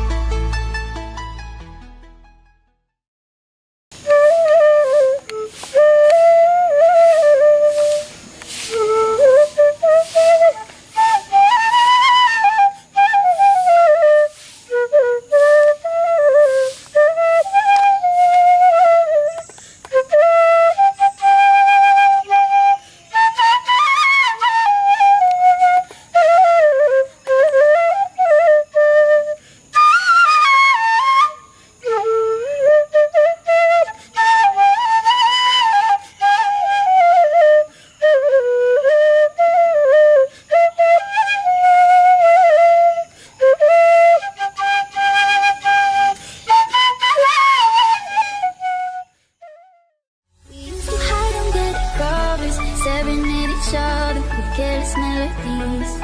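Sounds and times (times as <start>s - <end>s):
solo flute melody: 4.0s - 56.0s.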